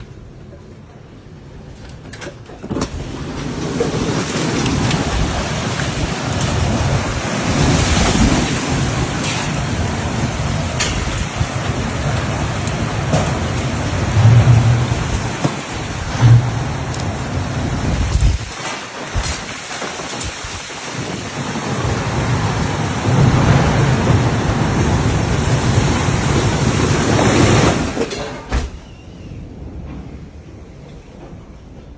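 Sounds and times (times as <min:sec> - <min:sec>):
strong wind and rain: 0:00.0 - 0:31.9.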